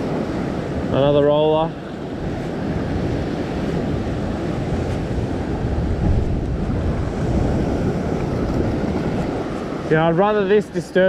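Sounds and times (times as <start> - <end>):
ocean swell washing against rocks: 0.0 - 11.0
wind buffeting the microphone: 0.0 - 11.0.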